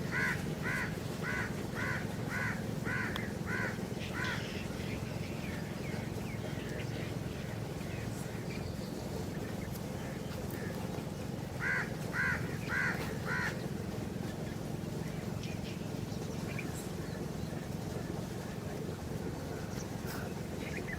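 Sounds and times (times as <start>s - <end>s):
low background noise: 0.0s - 20.9s.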